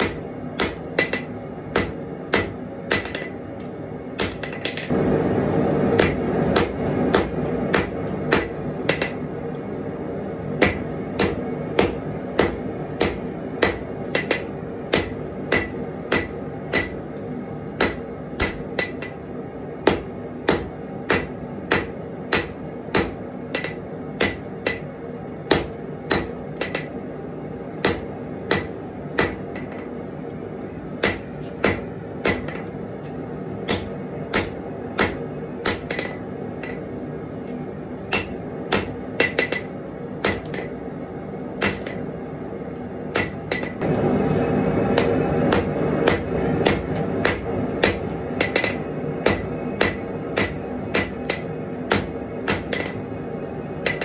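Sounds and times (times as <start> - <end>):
hammer striking steel on anvil: 0.0 - 3.4, 4.2 - 4.9, 6.0 - 9.3, 10.5 - 27.0, 27.8 - 30.0, 31.0 - 36.9, 38.0 - 40.8, 41.6 - 42.2, 43.1 - 43.9, 44.8 - 53.0, 53.8 - 54.0.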